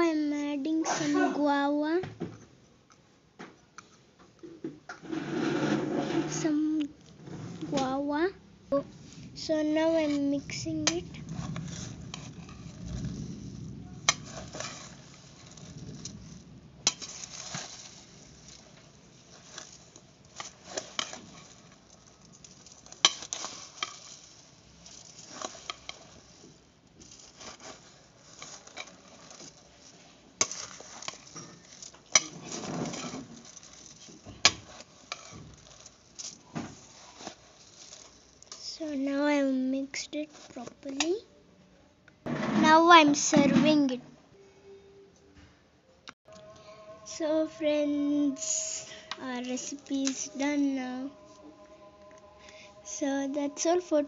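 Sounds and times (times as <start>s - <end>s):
puffed rice rustling: 5.0s - 41.3s, 46.4s - 54.0s.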